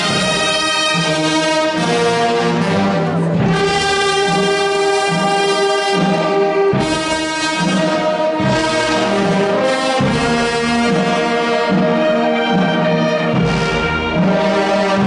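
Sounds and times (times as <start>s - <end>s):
wind band playing chords: 0.0s - 15.0s.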